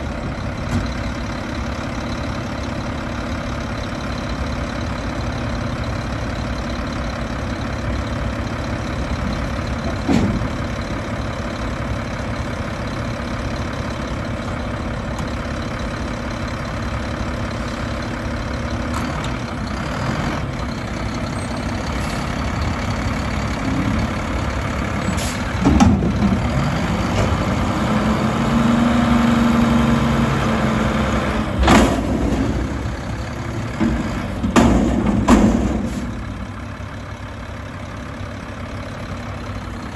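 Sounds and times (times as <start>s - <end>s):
garbage truck engine: 0.0s - 39.9s.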